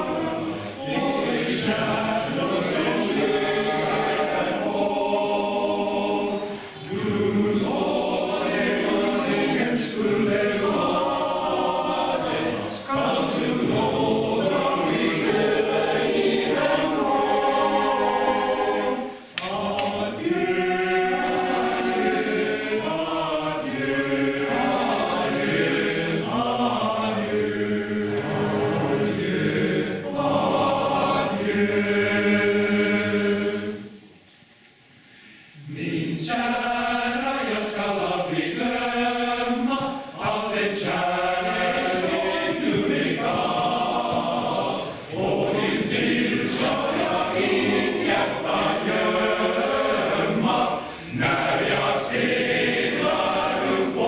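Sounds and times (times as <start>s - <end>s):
male choir singing: 0.0s - 33.9s, 35.6s - 54.0s.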